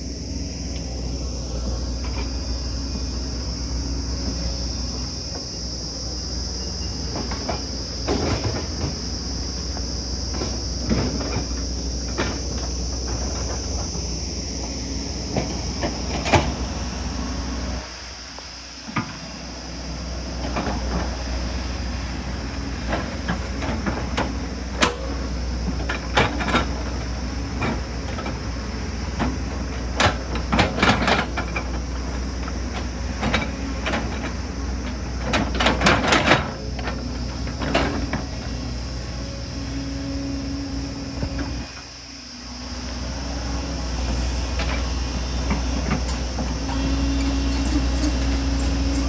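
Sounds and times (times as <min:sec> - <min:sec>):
excavator engine running: 0:00.0 - 0:49.0.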